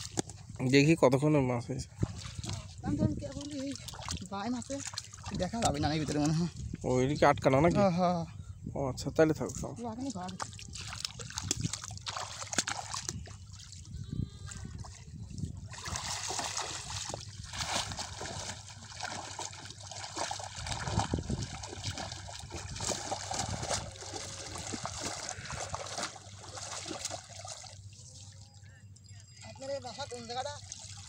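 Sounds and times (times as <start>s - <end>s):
water splashing and sloshing: 0.0s - 8.0s, 9.4s - 28.7s, 29.3s - 31.0s.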